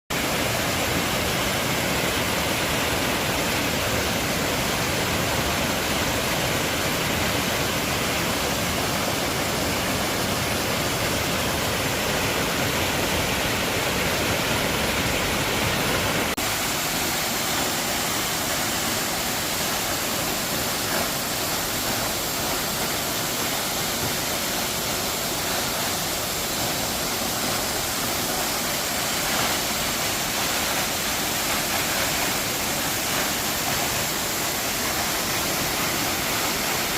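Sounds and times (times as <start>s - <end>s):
waterfall roaring: 0.1s - 36.9s.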